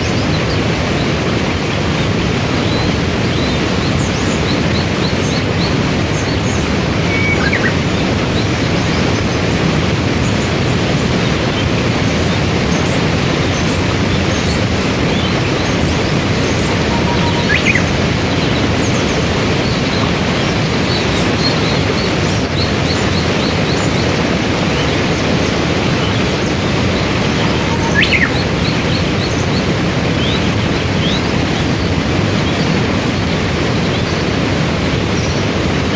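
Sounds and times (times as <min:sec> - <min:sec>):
small birds chirping faintly: 0:00.0 - 0:35.9
waterfall and rapids rushing: 0:00.0 - 0:35.9.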